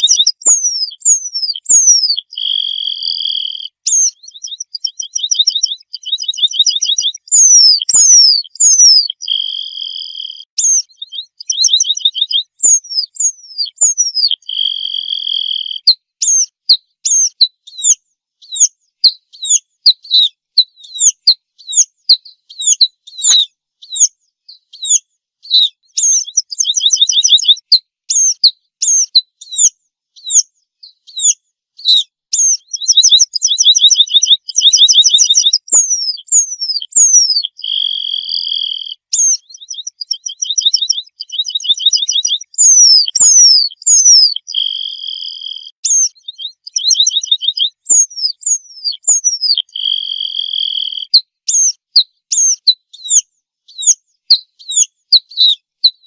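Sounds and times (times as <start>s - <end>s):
bird song trills and whistles: 0.0s - 56.0s.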